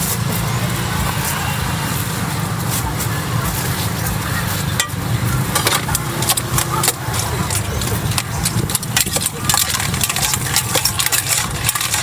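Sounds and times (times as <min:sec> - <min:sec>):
engine running low: 0:00.0 - 0:12.0.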